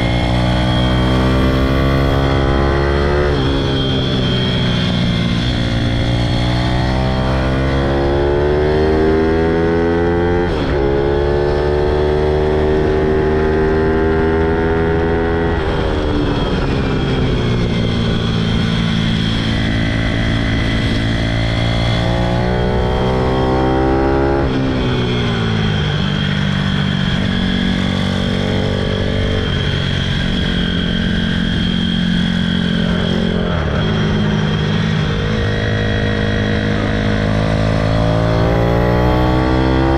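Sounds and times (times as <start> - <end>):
pit bike engine revving: 0.0 - 15.8, 18.1 - 39.9.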